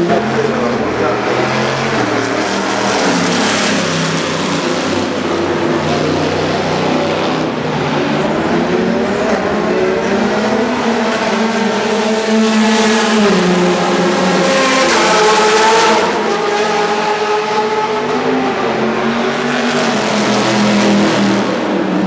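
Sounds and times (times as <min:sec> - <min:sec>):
race car engines at high revs: 0:00.0 - 0:22.0.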